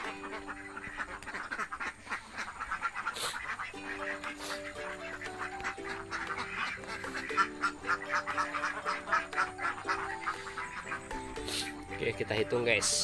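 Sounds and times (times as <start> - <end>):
background music simple melody: 0.0 - 13.0
ducks quacking: 0.0 - 13.0.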